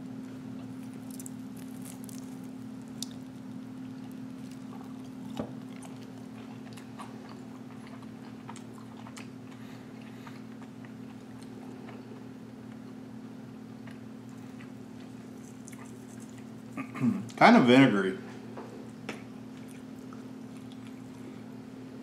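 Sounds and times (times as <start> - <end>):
steady low hum: 0.0 - 22.0
person chewing crispy food: 0.2 - 13.0, 13.7 - 17.0, 18.8 - 21.6.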